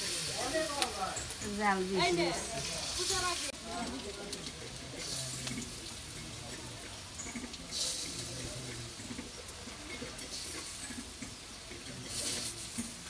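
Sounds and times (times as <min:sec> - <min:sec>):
battered vegetables sizzling in hot oil: 0:00.0 - 0:13.0.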